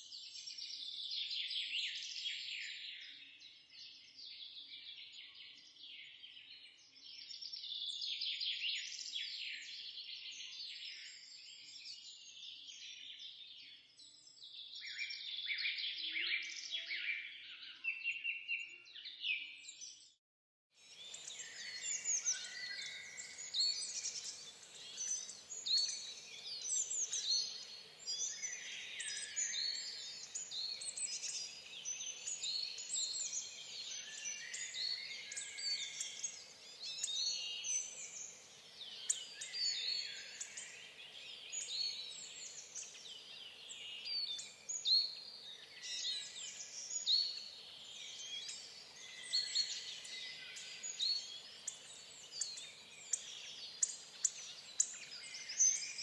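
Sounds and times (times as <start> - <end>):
songbirds chirping and twittering: 0.0 - 20.2, 20.8 - 56.0.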